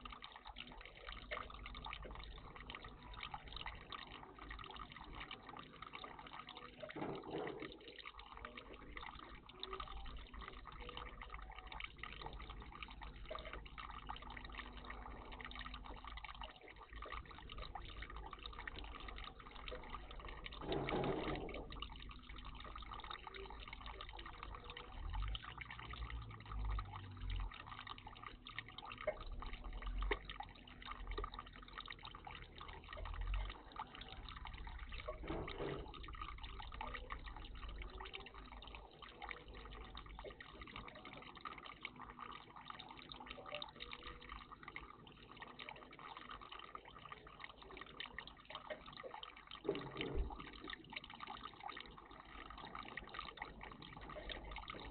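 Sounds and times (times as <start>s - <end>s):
water trickling in bird bath: 0.0s - 54.9s.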